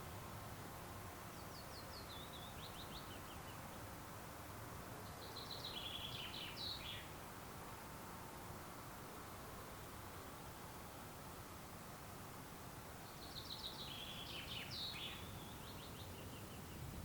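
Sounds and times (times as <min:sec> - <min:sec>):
faint outdoor ambience hiss: 0:00.0 - 0:17.0
songbird singing: 0:00.0 - 0:17.0.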